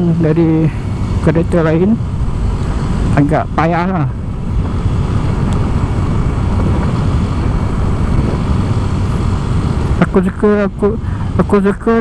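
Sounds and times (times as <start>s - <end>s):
scooter engine and road noise: 0.0s - 12.0s
wind rumble on microphone: 0.0s - 12.0s.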